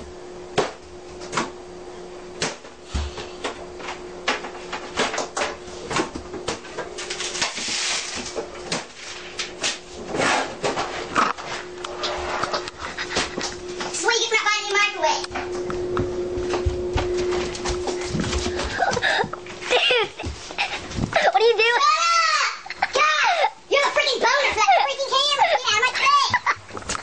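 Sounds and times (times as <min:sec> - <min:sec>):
microwave humming: 0:00.0 - 0:27.0.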